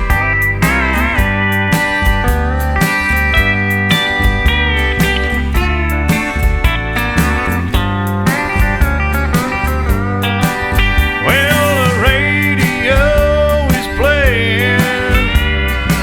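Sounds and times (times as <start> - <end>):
instrumental country music: 0.0 - 16.0
sliding guitar lines: 0.0 - 16.0
steady drum beat: 0.0 - 16.0.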